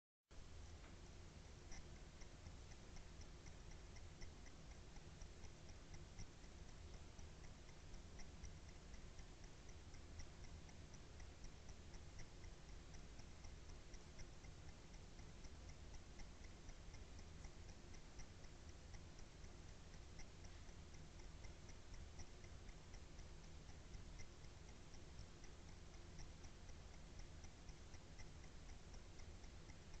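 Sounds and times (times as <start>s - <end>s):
faint even ticking: 0.3s - 30.0s
low steady hiss: 0.3s - 30.0s.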